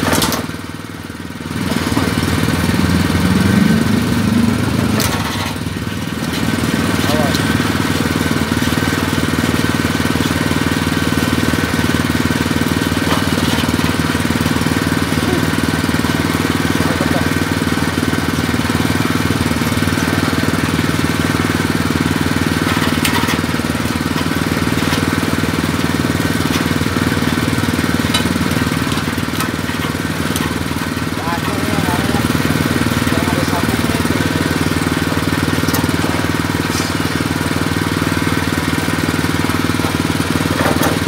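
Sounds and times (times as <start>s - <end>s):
peeling machine drone: 0.0s - 41.0s.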